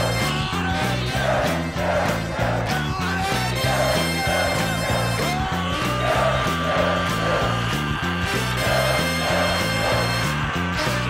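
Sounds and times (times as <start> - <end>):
bass line: 0.0 - 11.0.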